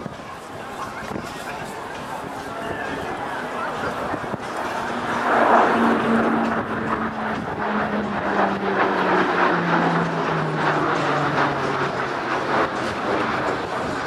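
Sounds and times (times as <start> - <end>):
propeller aircraft flying past: 0.0 - 14.0.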